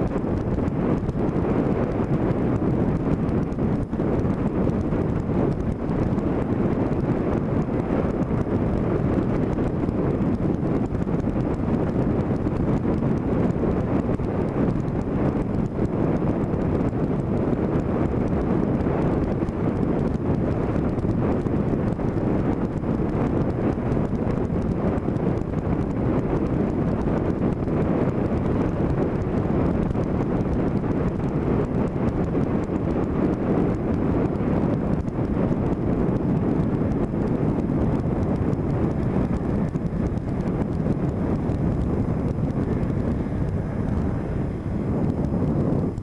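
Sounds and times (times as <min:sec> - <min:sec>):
vehicle moving along road: 0:00.0 - 0:46.0
wind buffeting microphone: 0:00.0 - 0:46.0.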